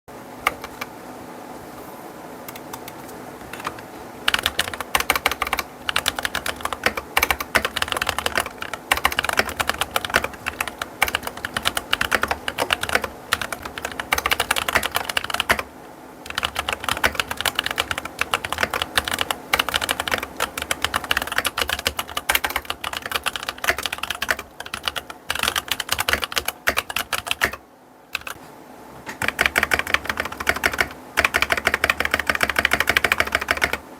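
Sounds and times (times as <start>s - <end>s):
mechanical keyboard typing: 0.4s - 0.9s, 2.5s - 28.4s, 29.2s - 33.8s.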